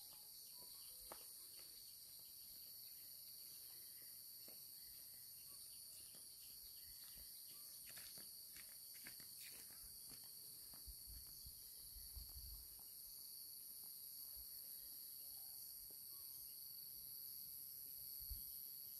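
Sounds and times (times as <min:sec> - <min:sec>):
high-pitched insect chorus drone: 0:00.0 - 0:18.9.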